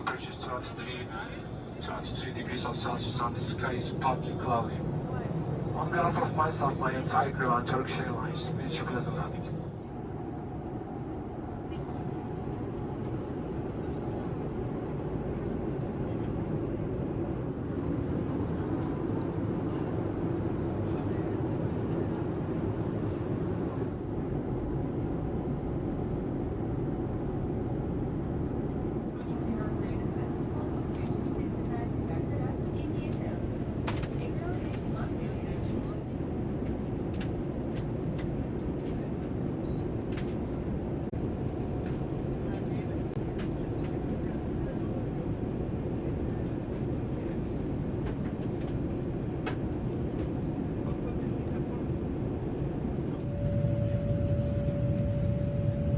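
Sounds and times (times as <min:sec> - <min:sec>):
airliner cabin rumble: 0:00.0 - 0:55.9.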